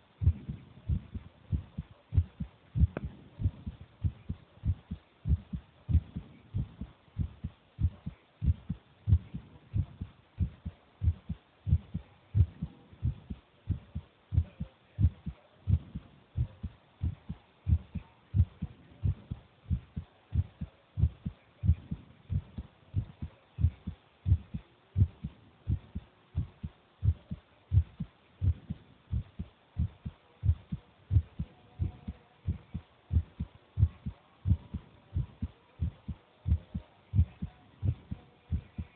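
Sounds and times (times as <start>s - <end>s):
heartbeat thumps: 0.2s - 38.9s.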